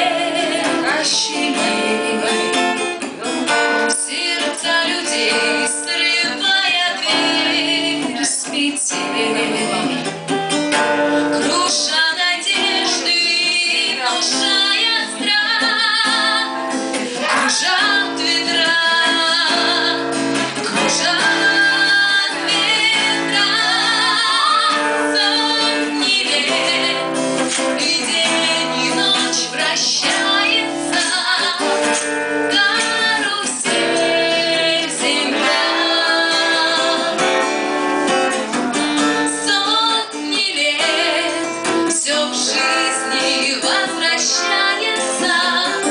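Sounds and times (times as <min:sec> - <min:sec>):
woman singing: 0:00.0 - 0:10.2, 0:11.0 - 0:45.9
guitar strummed and plucked: 0:00.0 - 0:45.9.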